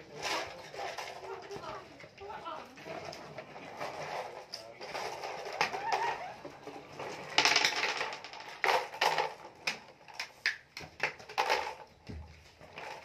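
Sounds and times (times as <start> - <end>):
plastic toy trucks clattering on wood: 0.0 - 13.0.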